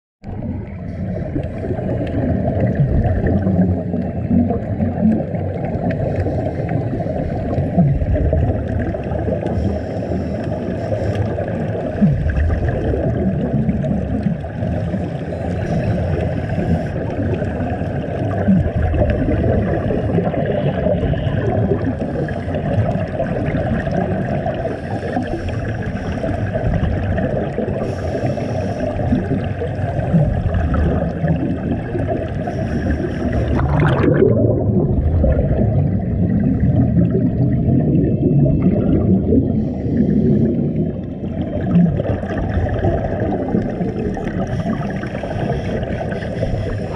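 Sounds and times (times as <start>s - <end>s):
underwater bubbles gurgling: 0.2s - 46.9s.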